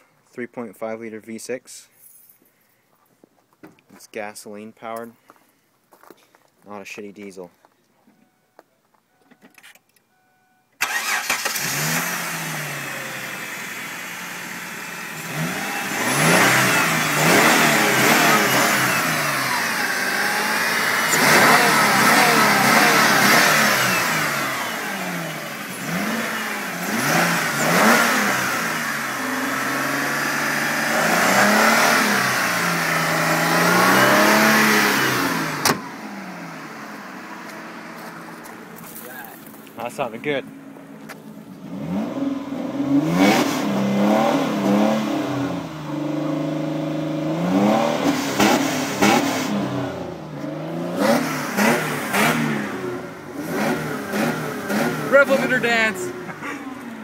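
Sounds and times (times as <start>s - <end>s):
car engine starting and revving: 10.8s - 57.0s.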